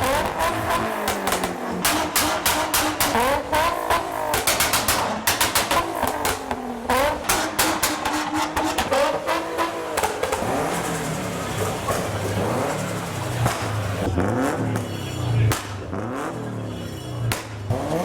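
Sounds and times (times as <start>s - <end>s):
sharp exhaust cracks: 0.0s - 16.4s
car engine revving: 0.0s - 18.0s.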